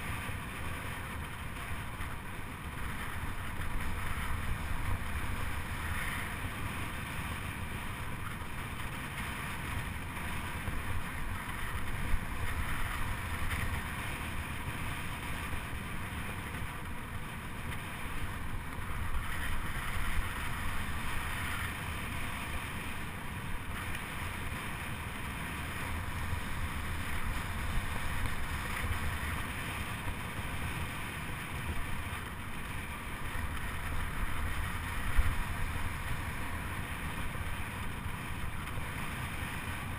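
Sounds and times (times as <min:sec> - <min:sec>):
bike rolling hum: 0:00.0 - 0:39.9
wind rushing over microphone: 0:00.0 - 0:39.9.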